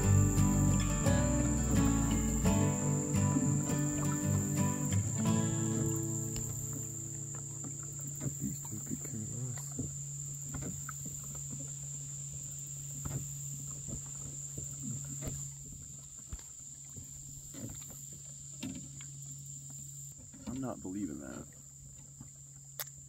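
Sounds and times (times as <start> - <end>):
low steady hum: 0.0 - 22.7
insects chorus: 0.0 - 23.0.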